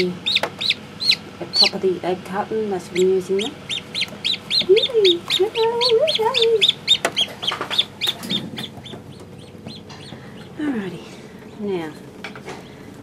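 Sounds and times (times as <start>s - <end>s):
chicks peeping: 0.0s - 1.8s, 2.4s - 11.7s.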